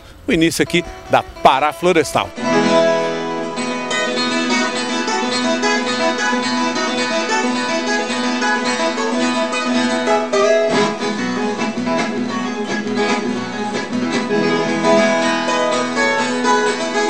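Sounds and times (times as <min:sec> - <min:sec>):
plucked guitar music: 0:00.3 - 0:17.0.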